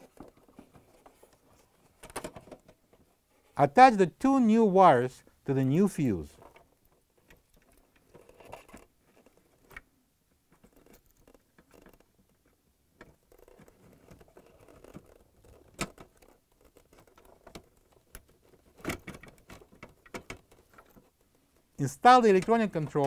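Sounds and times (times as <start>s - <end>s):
clicks and rustling of wire connectors: 0.0s - 3.2s, 6.3s - 9.9s, 10.5s - 23.0s.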